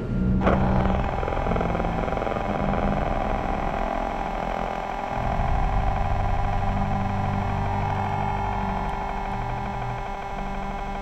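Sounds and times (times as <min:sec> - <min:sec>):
dense droning hum: 0:00.0 - 0:11.0.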